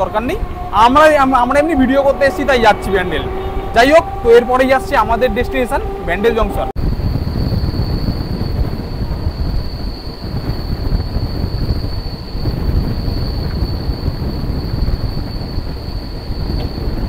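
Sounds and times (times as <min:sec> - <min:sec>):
high-pitched whine: 0:00.0 - 0:17.0
train wheels rumbling on rails: 0:00.0 - 0:17.0.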